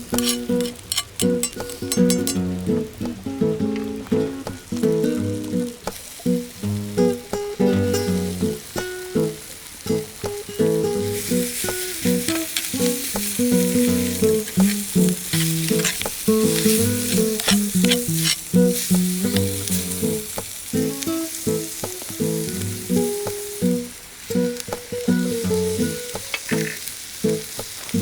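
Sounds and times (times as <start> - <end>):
acoustic guitar music: 0.0 - 28.0
food sizzling in a pan: 0.0 - 28.0.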